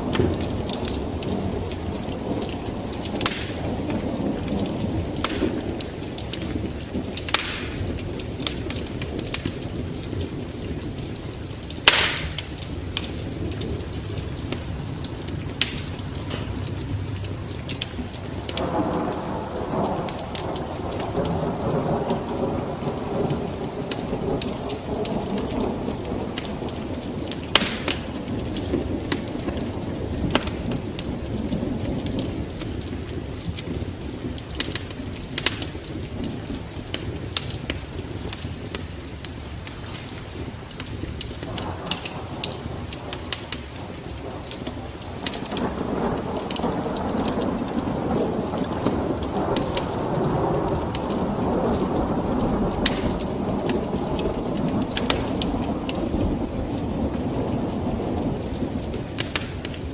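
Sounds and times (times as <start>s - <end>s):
fire crackling: 0.0s - 59.9s
roar of flames: 0.0s - 59.9s
sharp fire pops: 0.0s - 59.9s.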